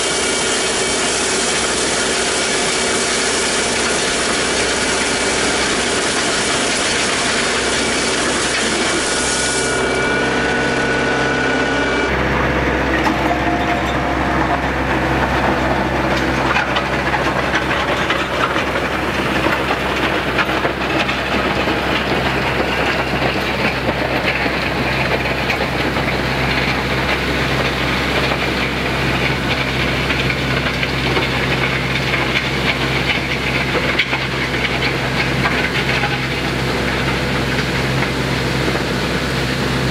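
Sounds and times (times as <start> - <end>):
tractor diesel engine running: 0.0 - 39.9
gravel scraping and crunching: 3.6 - 38.7.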